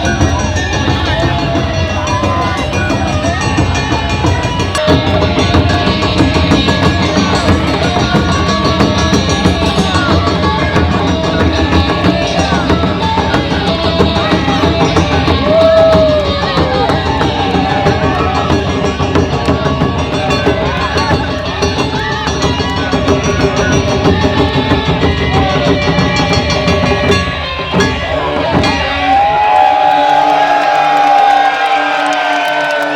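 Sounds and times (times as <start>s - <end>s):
taiko drums beaten hard: 0.0s - 29.8s
other instruments and voices: 0.0s - 32.9s.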